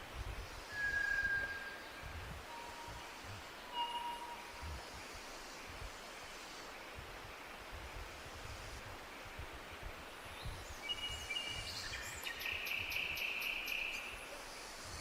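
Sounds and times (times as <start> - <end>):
songbird singing: 0.0 - 15.0
steady outdoor hiss: 0.0 - 15.0.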